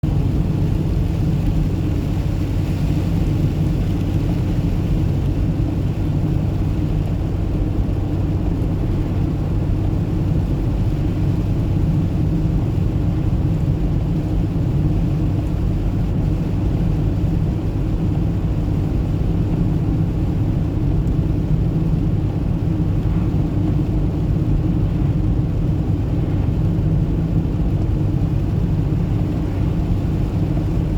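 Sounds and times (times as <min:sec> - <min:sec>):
car engine and tyre rumble: 0:00.0 - 0:30.9.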